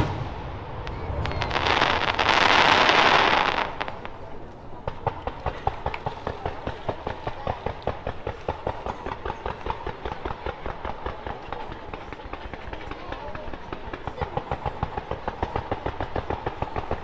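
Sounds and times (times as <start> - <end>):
fireworks popping: 0.0 - 17.0.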